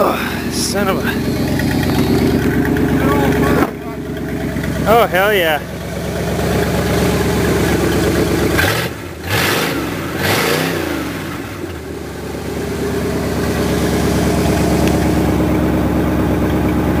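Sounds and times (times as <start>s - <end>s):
engine revving and idling: 0.0s - 17.0s.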